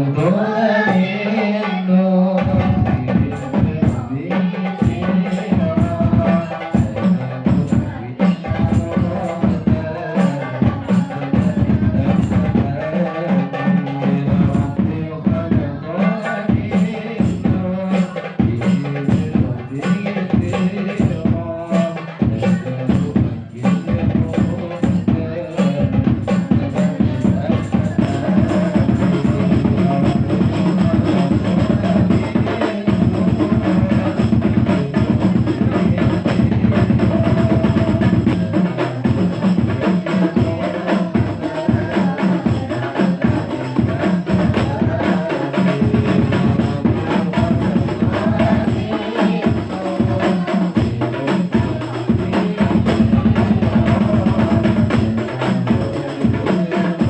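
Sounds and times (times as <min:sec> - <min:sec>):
hand percussion ensemble: 0:00.0 - 0:57.0.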